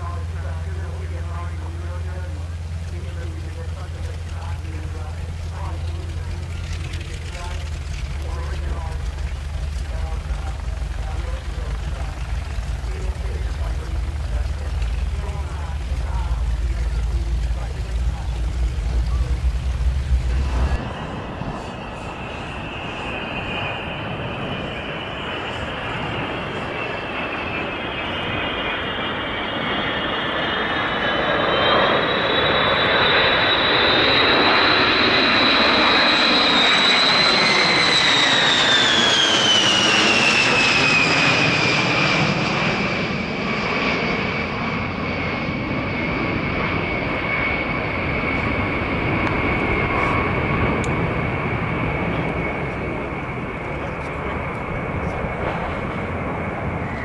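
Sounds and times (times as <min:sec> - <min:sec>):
jet bomber flying overhead: 0:00.0 - 0:57.0.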